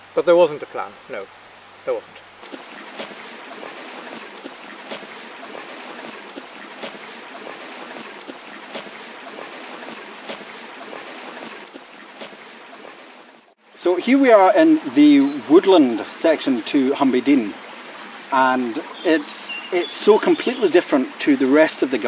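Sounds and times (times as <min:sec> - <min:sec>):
river water rushing: 0:01.4 - 0:22.0.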